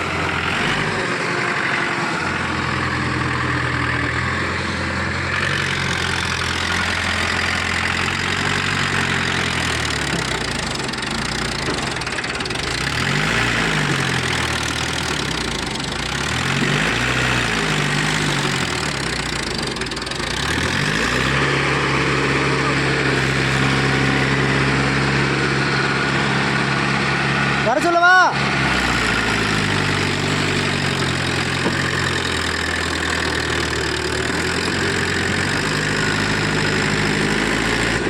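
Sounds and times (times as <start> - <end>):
tractor diesel engine revving: 0.0 - 38.0.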